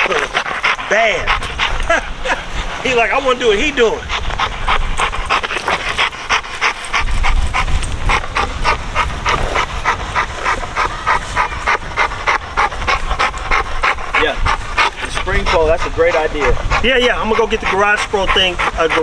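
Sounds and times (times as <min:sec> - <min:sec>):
dog panting hard: 0:00.0 - 0:19.0.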